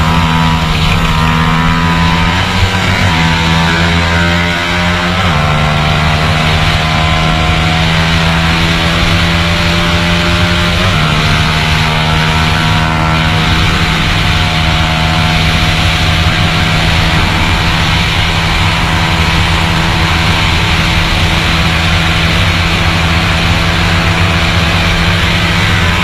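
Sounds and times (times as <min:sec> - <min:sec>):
motorcycle engine at high revs: 0:00.0 - 0:26.0
wind rush over microphone: 0:00.0 - 0:26.0.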